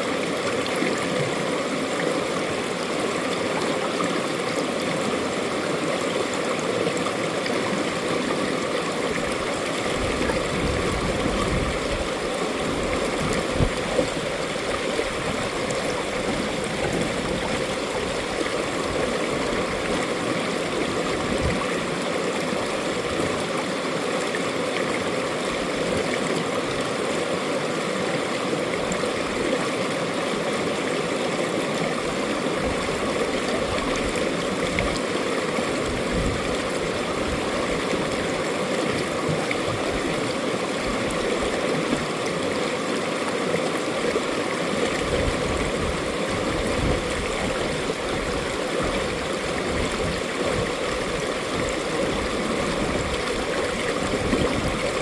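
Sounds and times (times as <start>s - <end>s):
stream gurgling over rocks: 0.0s - 55.0s.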